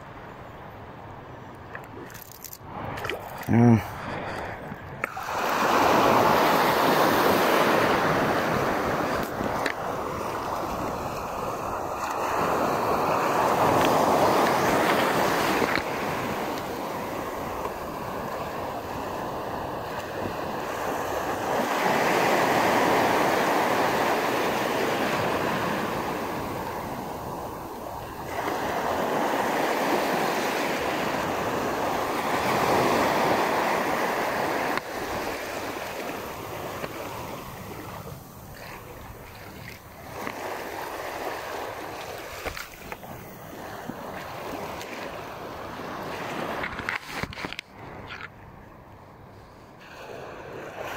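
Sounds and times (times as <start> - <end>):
waves breaking on sandy shore: 1.6 - 50.9.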